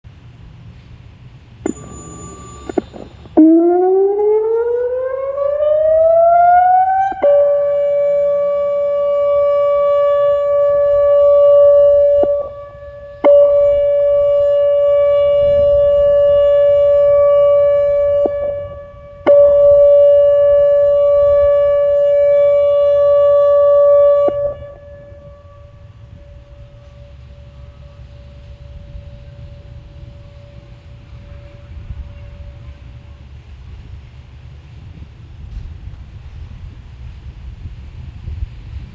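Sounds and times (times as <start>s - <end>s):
electronic warning siren: 1.6s - 35.3s.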